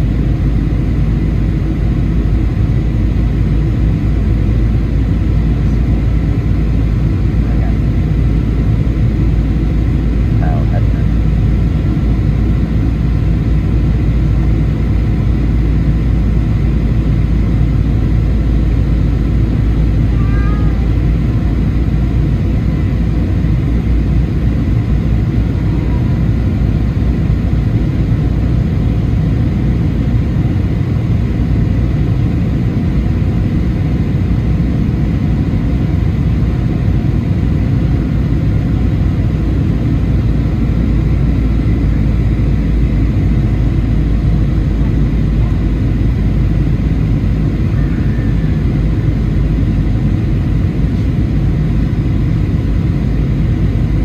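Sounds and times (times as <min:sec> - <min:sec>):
airplane cabin engine roar: 0:00.0 - 0:54.0.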